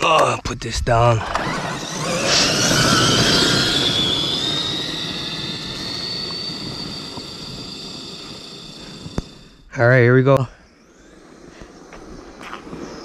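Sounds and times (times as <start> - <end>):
high whine of electric toy truck: 1.2 - 9.7, 10.7 - 13.0.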